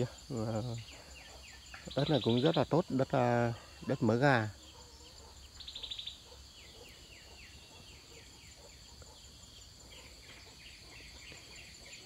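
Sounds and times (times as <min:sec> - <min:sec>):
bird chirping: 0:00.0 - 0:12.0
high insect drone: 0:00.0 - 0:12.0.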